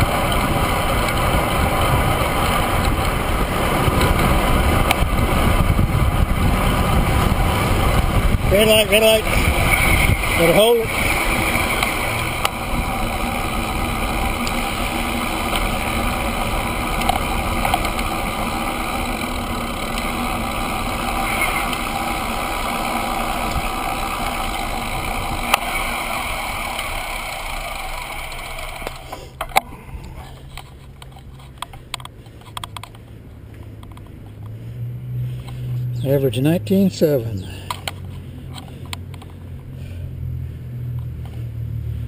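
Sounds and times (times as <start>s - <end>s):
wind and bike tyre noise: 0.0s - 42.0s.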